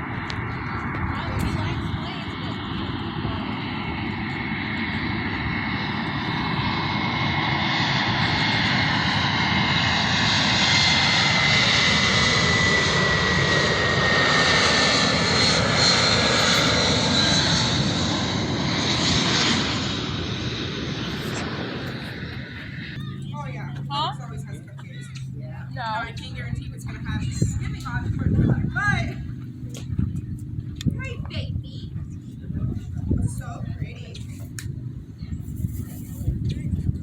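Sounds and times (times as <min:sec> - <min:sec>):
high engine whine: 0:00.0 - 0:37.0
jet airliner passing overhead: 0:00.0 - 0:37.0.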